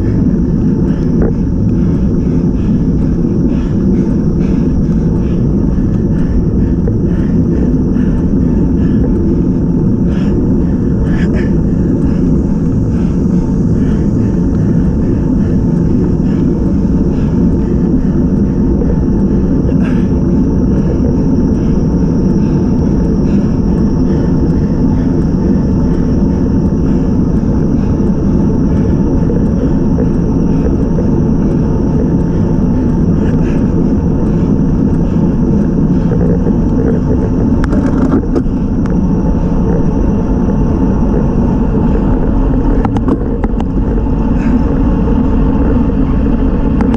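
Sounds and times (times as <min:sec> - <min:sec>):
faint high whine: 0:00.0 - 0:46.9
wind buffeting microphone: 0:00.0 - 0:46.9.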